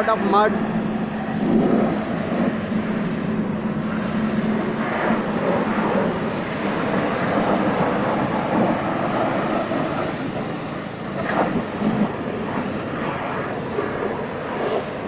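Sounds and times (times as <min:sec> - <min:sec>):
low motor hum: 0:00.0 - 0:15.0
pressure washer spraying: 0:00.0 - 0:15.0.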